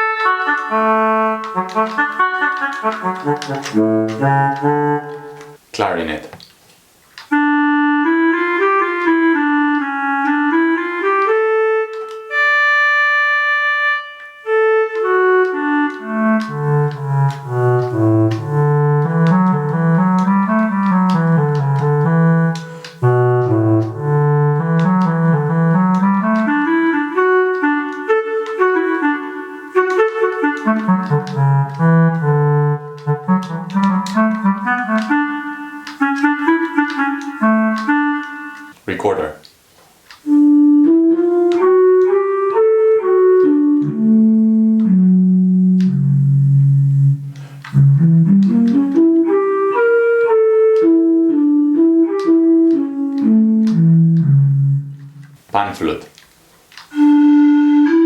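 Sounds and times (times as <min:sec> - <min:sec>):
digital saxophone clarinet melody: 0:00.0 - 0:05.6, 0:07.2 - 0:39.4, 0:40.2 - 0:56.0, 0:56.9 - 0:58.0.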